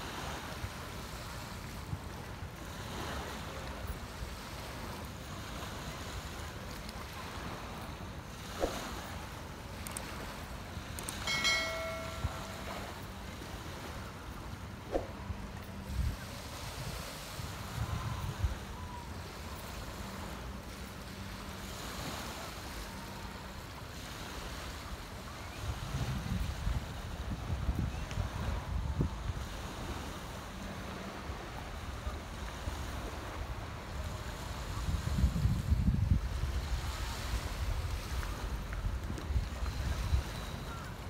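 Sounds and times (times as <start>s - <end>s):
wind buffeting microphone: 0.0s - 20.5s, 24.2s - 41.0s
waves washing on beach: 0.0s - 41.0s.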